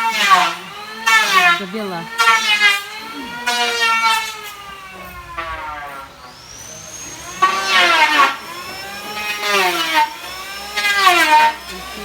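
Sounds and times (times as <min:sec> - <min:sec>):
power tool whining: 0:00.0 - 0:12.0.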